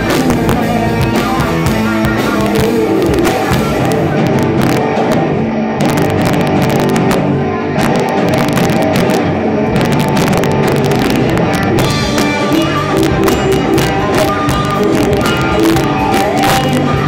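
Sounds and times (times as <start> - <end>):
drum and cymbal hits: 0.0 - 17.0
electric bass: 0.0 - 17.0
electric guitars: 0.0 - 17.0.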